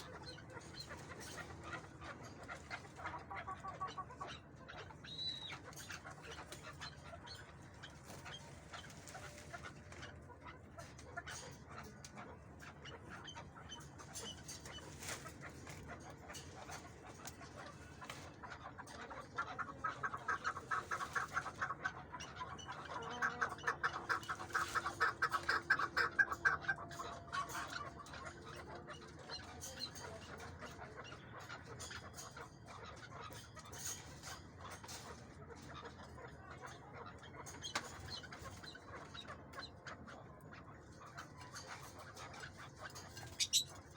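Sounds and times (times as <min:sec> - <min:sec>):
partridge clucking calls: 0:00.0 - 0:43.9.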